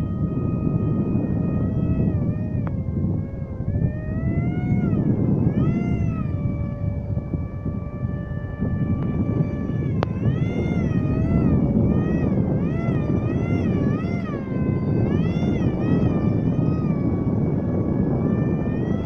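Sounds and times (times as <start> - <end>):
model aircraft propeller whining: 0.0 - 19.0
wind rumble on microphone: 0.0 - 19.0.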